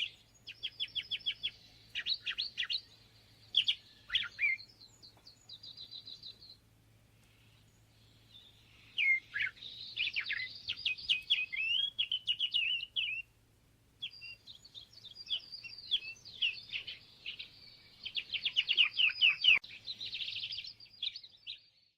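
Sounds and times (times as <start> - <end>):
songbird twittering warble: 0.0 - 13.3, 14.0 - 21.9.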